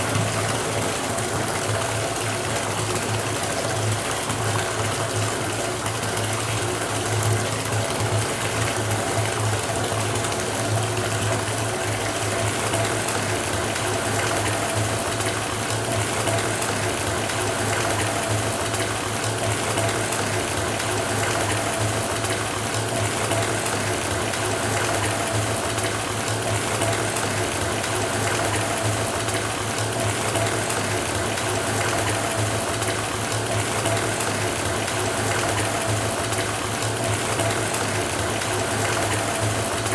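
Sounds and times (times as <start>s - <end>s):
faucet water pouring into bathtub: 0.0s - 39.9s.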